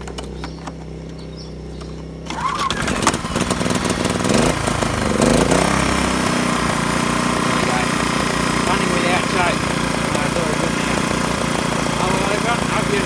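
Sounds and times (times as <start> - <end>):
generator humming: 0.0 - 13.0
generator engine starting: 1.8 - 13.0.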